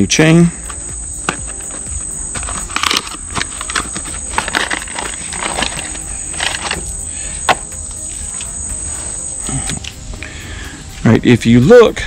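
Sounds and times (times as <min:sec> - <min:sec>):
steady high-pitched hum: 0:00.0 - 0:12.0.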